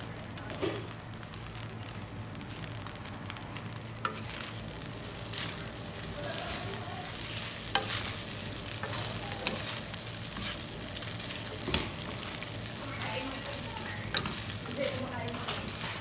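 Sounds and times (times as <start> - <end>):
noodles sizzling in a hot wok: 0.0 - 16.0.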